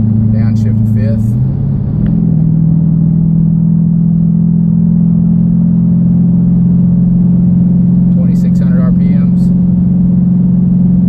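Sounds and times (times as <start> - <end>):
loud car exhaust drone: 0.0 - 11.0.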